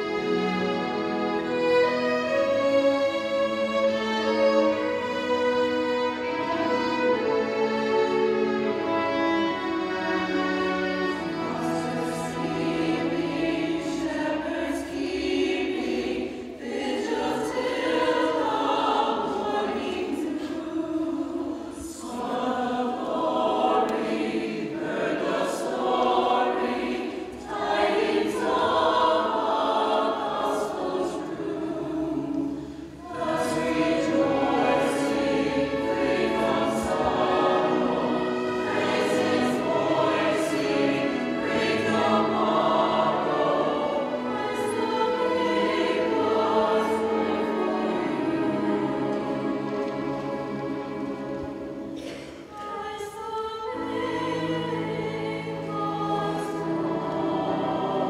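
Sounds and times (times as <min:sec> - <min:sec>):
mixed choir singing: 0:00.0 - 0:58.0
string orchestra: 0:00.0 - 0:58.0.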